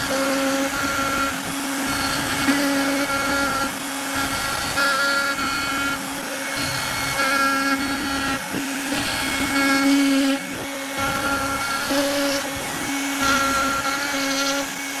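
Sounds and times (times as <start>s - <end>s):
bit carving wood: 0.0s - 15.0s
router spindle whining: 0.0s - 15.0s.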